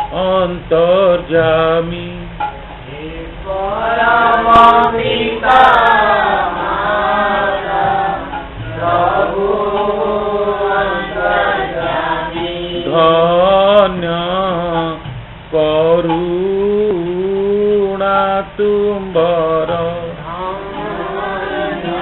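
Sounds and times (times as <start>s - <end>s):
person singing devotional song: 2.9s - 22.0s.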